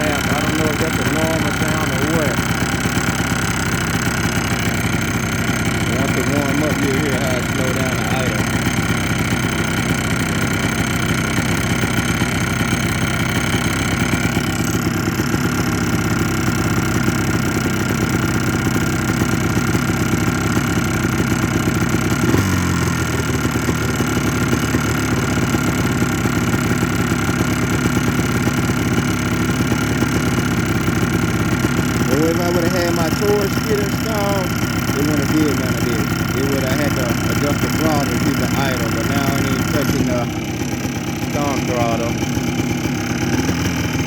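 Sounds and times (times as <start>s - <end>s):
engine piston slap knocking: 0.0s - 44.0s
two-stroke engine idling: 0.0s - 44.0s.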